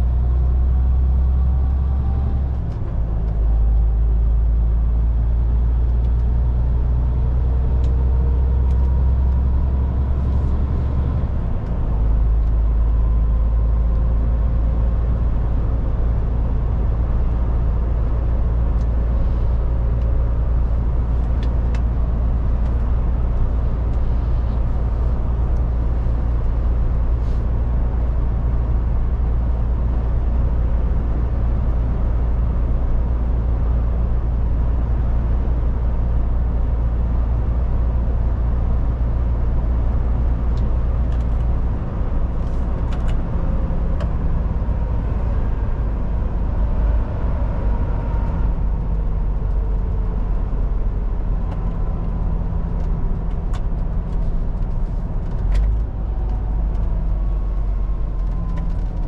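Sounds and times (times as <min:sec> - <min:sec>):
truck engine drone: 0:00.0 - 0:59.0.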